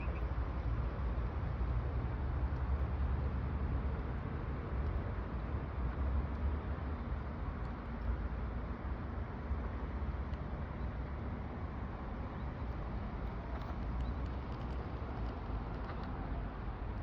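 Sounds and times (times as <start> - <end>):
flickering low outdoor rumble: 0.0 - 17.0.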